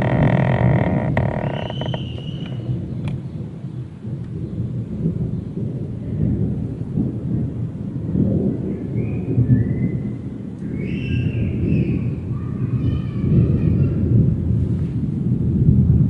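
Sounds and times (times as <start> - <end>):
low rolling rumble: 0.0 - 16.0.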